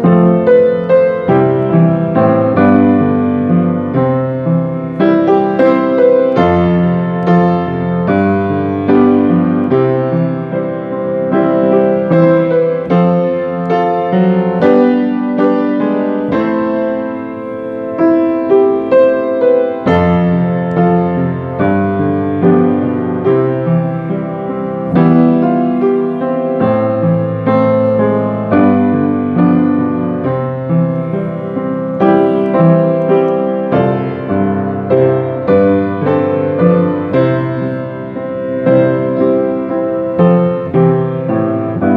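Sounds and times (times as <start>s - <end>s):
slow solo piano: 0.0s - 41.9s.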